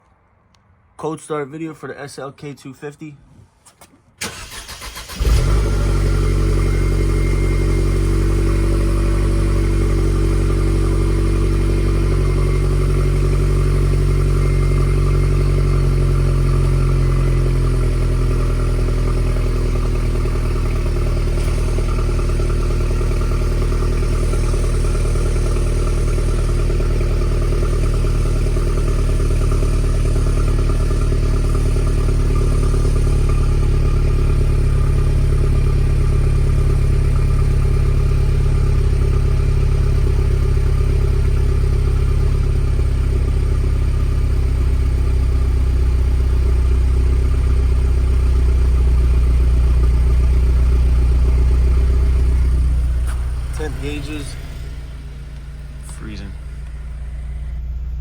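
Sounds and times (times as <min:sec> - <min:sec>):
car engine starting and idling: 0:00.0 - 0:58.0.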